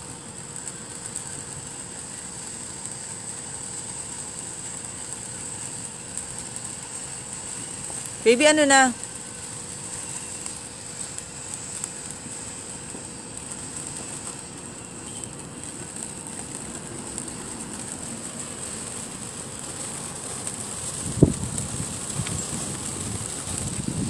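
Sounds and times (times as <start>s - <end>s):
firework fountain crackling hiss: 0.0s - 24.0s.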